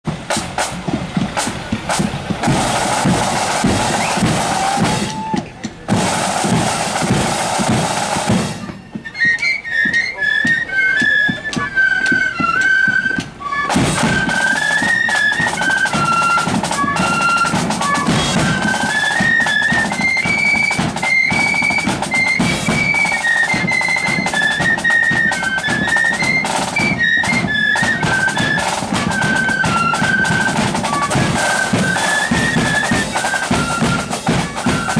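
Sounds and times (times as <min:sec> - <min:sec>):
snare and bass drums: 0:00.0 - 0:34.9
flutes playing a tune: 0:00.1 - 0:34.9.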